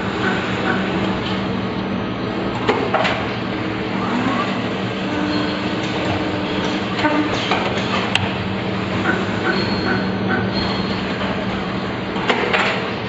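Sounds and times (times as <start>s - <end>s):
short machine whine: 0.0s - 12.2s
machine hum and clattering: 0.0s - 13.0s.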